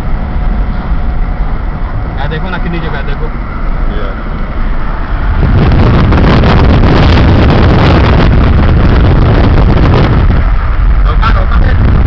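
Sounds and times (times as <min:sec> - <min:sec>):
car road noise: 0:00.0 - 0:12.0
wind buffeting microphone: 0:00.0 - 0:12.0.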